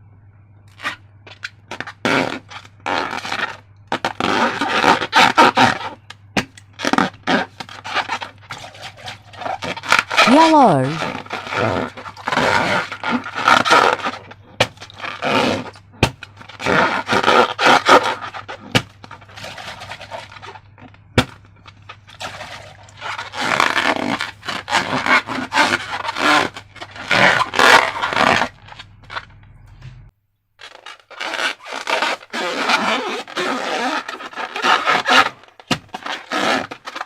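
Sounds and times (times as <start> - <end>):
slime squishing and rubbing: 0.8 - 29.3, 30.6 - 37.0.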